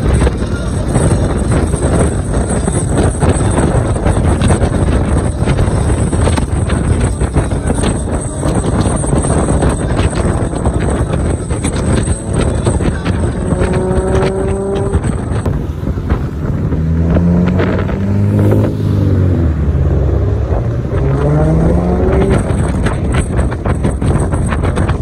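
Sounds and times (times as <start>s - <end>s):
car road noise: 0.0s - 25.0s
wind buffeting microphone: 0.0s - 25.0s.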